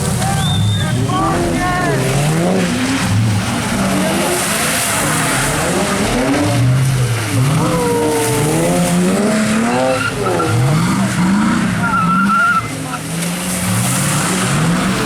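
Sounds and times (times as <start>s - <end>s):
car engine revving hard: 0.0s - 15.0s
tires on wet pavement: 0.0s - 15.0s.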